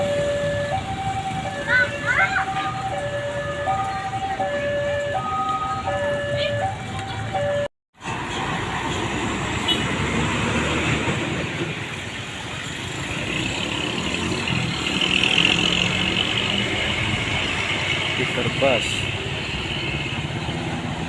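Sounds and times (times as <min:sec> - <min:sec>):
heavy vehicle engine and tyres: 0:00.0 - 0:21.0
road traffic passing: 0:00.0 - 0:21.0.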